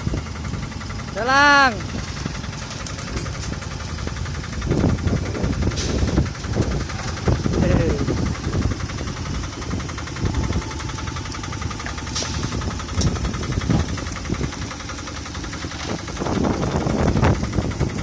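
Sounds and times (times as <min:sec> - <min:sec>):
diesel truck engine knocking: 0:00.0 - 0:18.0.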